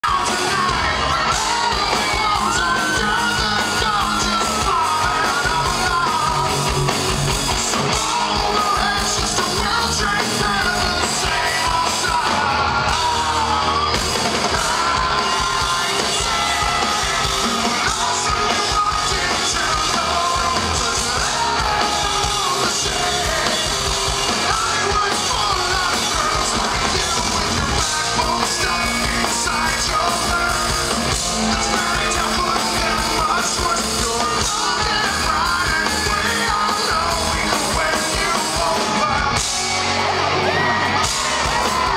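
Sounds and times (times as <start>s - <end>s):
electric guitar: 0.0s - 41.9s
live rock band: 0.0s - 41.9s
man singing: 0.0s - 41.9s.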